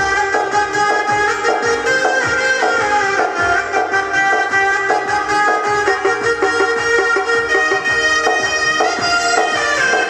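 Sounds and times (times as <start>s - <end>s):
drum beat: 0.0s - 10.0s
sitar-like keyboard melody: 0.0s - 10.0s.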